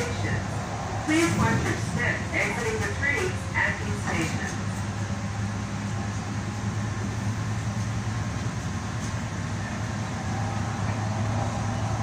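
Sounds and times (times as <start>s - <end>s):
light rail car rumbling: 0.0s - 12.0s.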